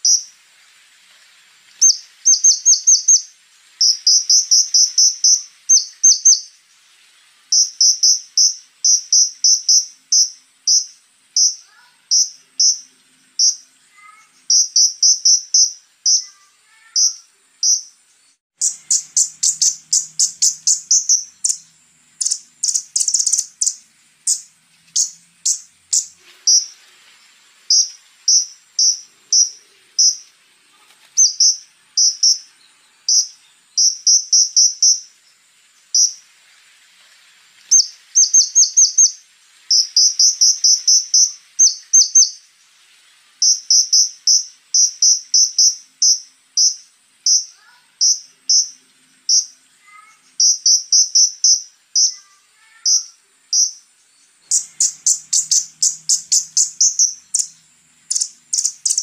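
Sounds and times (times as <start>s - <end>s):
bird calling high ticking notes: 0.0s - 0.4s, 1.8s - 6.6s, 7.5s - 18.0s, 18.6s - 26.8s, 27.7s - 30.4s, 31.2s - 35.2s, 35.9s - 36.3s, 37.7s - 42.4s, 43.4s - 59.0s
faint high buzz: 0.0s - 59.0s.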